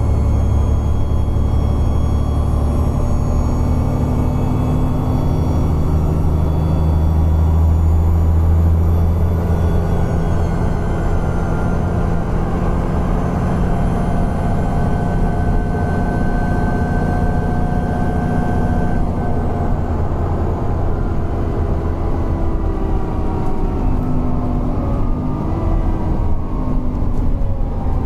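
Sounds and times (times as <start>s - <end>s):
bus engine drone: 0.0s - 28.0s.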